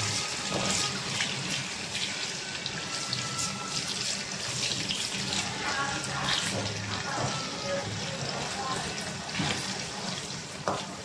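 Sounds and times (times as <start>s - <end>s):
potatoes sizzling in hot oil: 0.0s - 11.0s.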